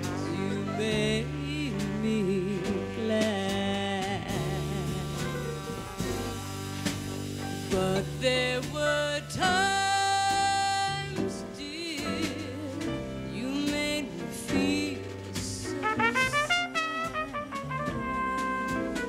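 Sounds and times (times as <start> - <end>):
trumpet playing jazz: 0.0 - 19.0
upright bass: 0.0 - 19.0.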